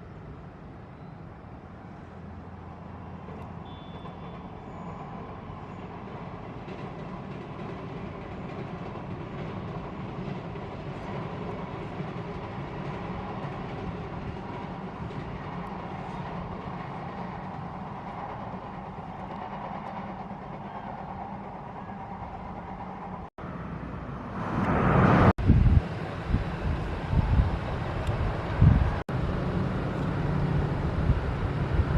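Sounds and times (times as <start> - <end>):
distant traffic rumble: 0.0 - 31.9
wind buffeting microphone: 5.0 - 23.3, 24.3 - 31.9.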